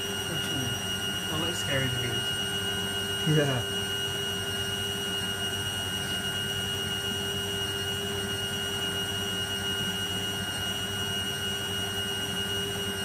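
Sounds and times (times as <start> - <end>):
washing machine whirring: 0.0 - 13.0.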